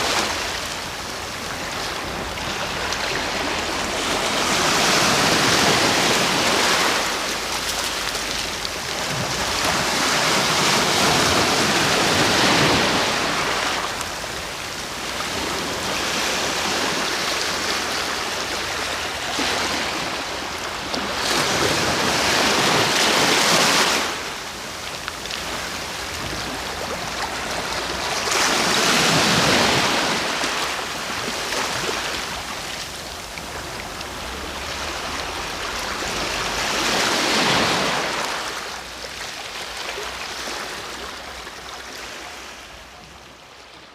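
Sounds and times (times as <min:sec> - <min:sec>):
sea waves breaking on shore: 0:00.0 - 0:43.9.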